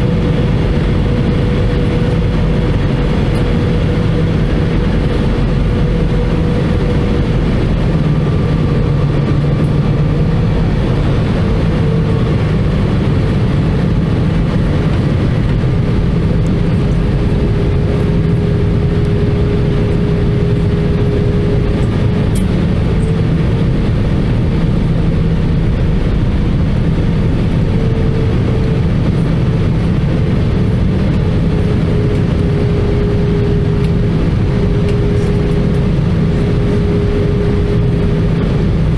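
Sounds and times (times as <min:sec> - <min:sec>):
aircraft cabin engine rumble: 0:00.0 - 0:38.9
steady wavering hum: 0:00.0 - 0:38.9.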